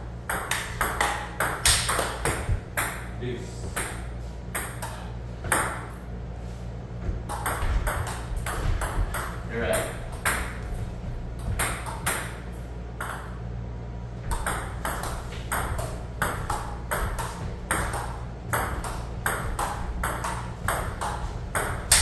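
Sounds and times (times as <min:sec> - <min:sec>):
ping pong ball clicking off paddles: 0:00.3 - 0:03.1, 0:03.7 - 0:06.0, 0:07.2 - 0:10.7, 0:11.4 - 0:13.4, 0:14.3 - 0:22.0
ball bouncing on table: 0:00.3 - 0:06.0, 0:07.1 - 0:12.4, 0:13.0 - 0:13.4, 0:14.3 - 0:22.0.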